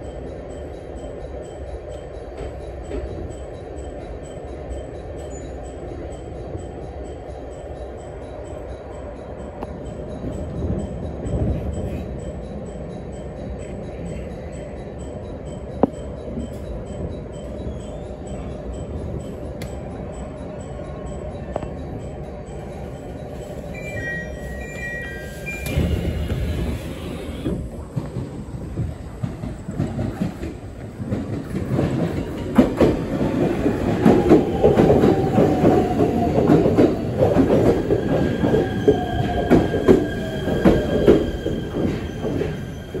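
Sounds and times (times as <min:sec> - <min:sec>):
electric train whine: 0:00.0 - 0:43.0.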